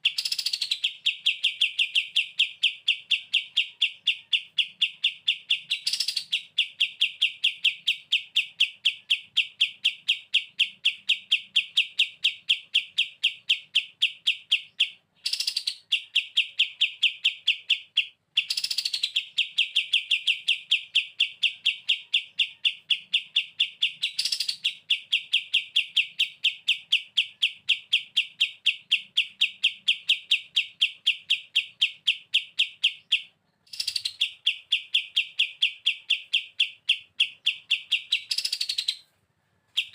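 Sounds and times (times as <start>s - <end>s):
bird trilling sharp chirps: 0.0s - 39.9s.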